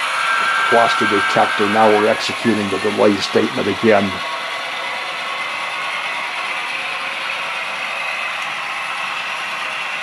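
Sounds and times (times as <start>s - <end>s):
model train diesel engine sound: 0.0s - 10.0s
whirr of motors and gears: 0.0s - 10.0s.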